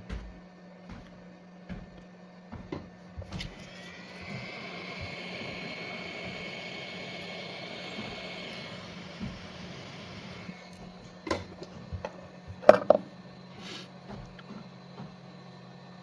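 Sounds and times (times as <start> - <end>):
hot-air blower whining: 0.0 - 16.0.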